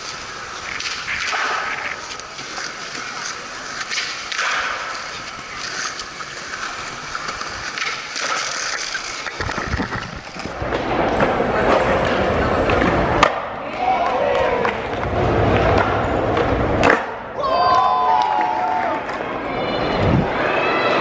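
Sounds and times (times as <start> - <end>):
skateboard clacks: 0.0 - 19.3
skateboard wheels rolling on concrete: 0.0 - 21.0.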